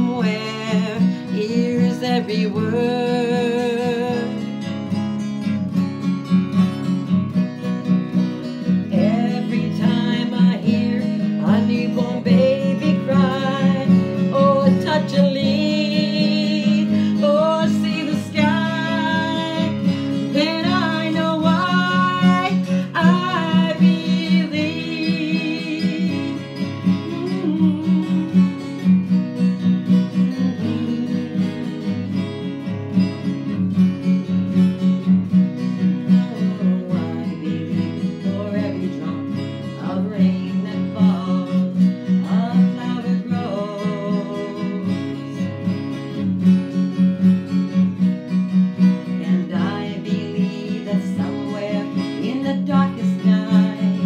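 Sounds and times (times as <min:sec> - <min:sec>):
woman singing slow song: 0:00.0 - 0:04.8, 0:08.6 - 0:29.1, 0:29.8 - 0:33.2, 0:35.6 - 0:46.0, 0:48.9 - 0:54.0
acoustic guitar strumming: 0:00.0 - 0:54.0.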